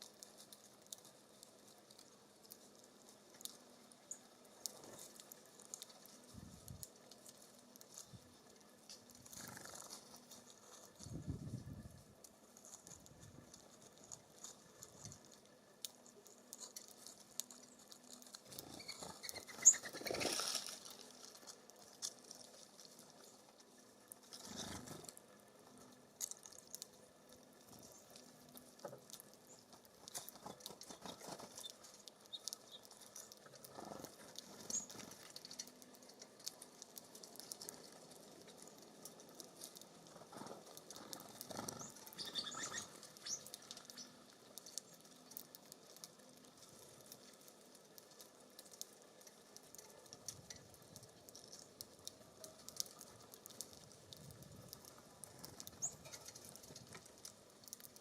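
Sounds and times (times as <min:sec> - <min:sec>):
birds pecking at seed: 0:00.0 - 0:58.0
rustling of seed and wings: 0:00.0 - 0:58.0.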